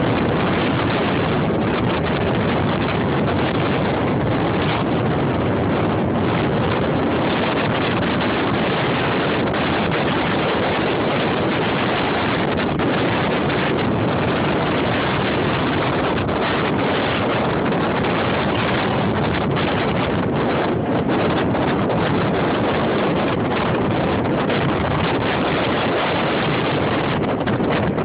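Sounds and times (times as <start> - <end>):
wind blowing on microphone: 0.0 - 28.0.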